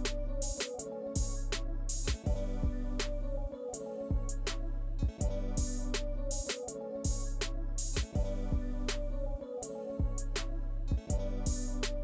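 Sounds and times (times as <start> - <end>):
background music with drum beat: 0.0 - 3.2, 4.1 - 9.1, 10.0 - 12.0.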